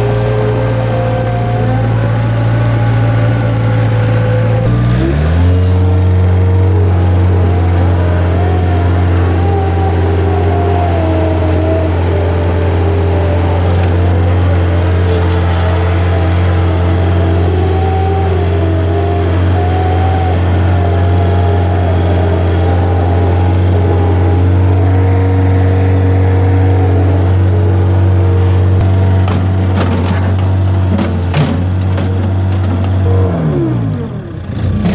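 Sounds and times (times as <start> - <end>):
wavering whine: 0.0 - 29.0
loader engine running: 0.0 - 34.9.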